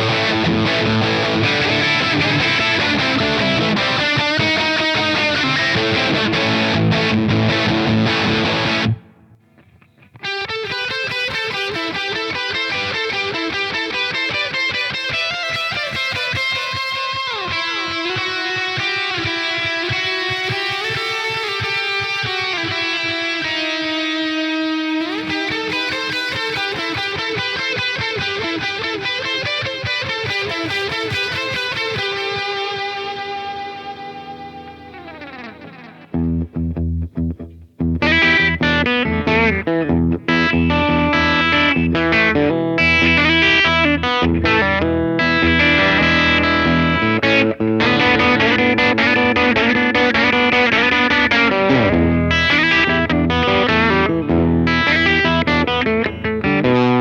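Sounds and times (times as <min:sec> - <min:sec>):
distorted electric guitar chords: 0:00.0 - 0:57.0
fast picked guitar riff: 0:00.0 - 0:57.0.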